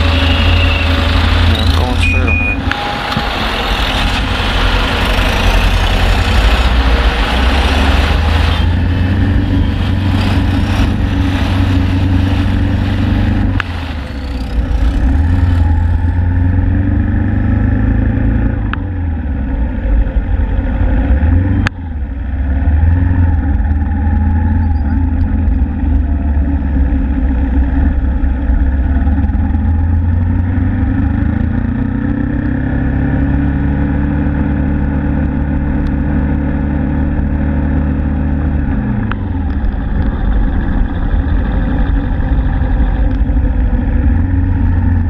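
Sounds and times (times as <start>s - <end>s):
motorcycle engine idling and revving: 0.0s - 45.0s
other vehicle engines: 0.0s - 45.0s.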